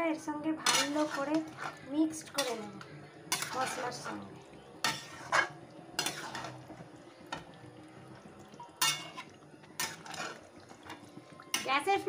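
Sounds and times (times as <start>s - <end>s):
metal spatula scraping a pan: 0.6s - 7.5s, 8.8s - 11.9s.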